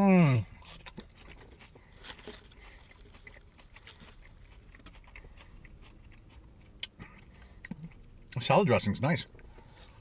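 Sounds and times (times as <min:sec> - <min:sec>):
person chewing salad: 0:00.2 - 0:08.4, 0:09.3 - 0:10.0.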